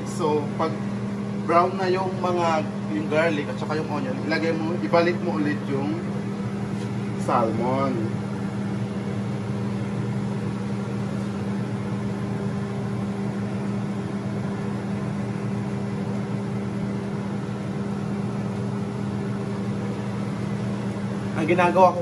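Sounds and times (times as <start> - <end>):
fan motor humming: 0.0 - 22.0.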